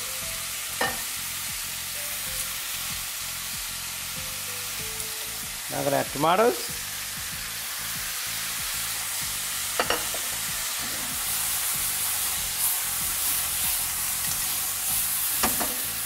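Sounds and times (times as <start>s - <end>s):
meat and tomatoes sizzling in a pan: 0.0s - 16.0s.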